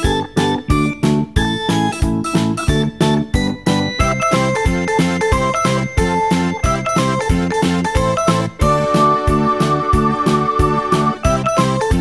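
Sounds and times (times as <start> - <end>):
background music with plucked notes: 0.0 - 12.0.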